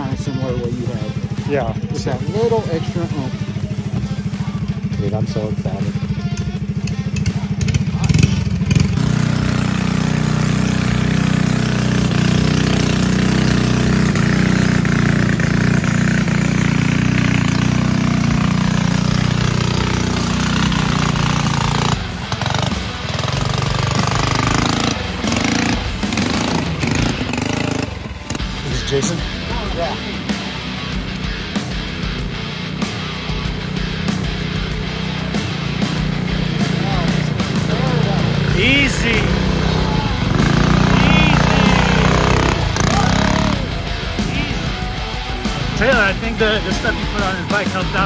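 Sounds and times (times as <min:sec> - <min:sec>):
minibike engine running hard: 0:00.0 - 0:48.0.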